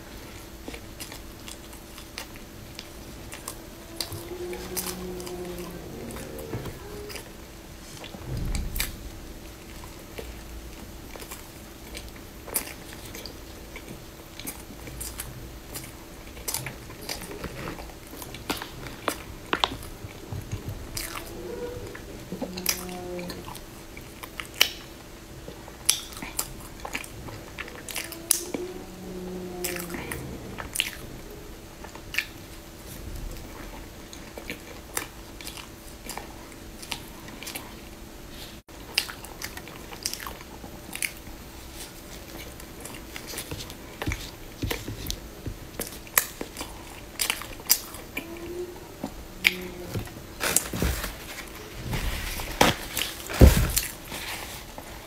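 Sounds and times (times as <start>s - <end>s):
closed-mouth hums: 0.0s - 39.2s, 39.9s - 54.1s
person chewing bread: 0.0s - 55.0s.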